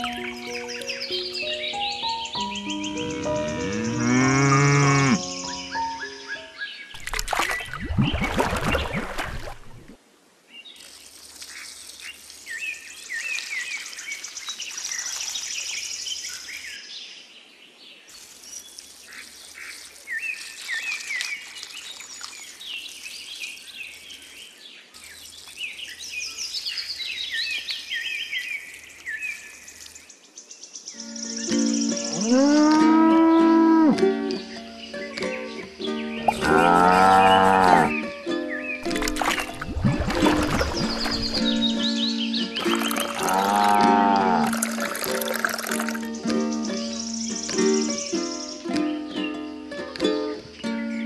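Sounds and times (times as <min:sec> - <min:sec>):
small birds chirping: 0:00.0 - 0:09.6, 0:10.5 - 0:51.0.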